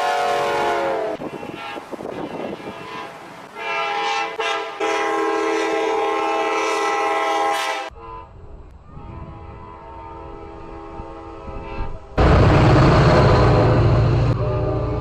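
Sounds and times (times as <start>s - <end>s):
train horn chord: 0.0s - 11.9s, 13.5s - 15.0s
fainter train horn: 0.0s - 12.1s, 13.4s - 15.0s.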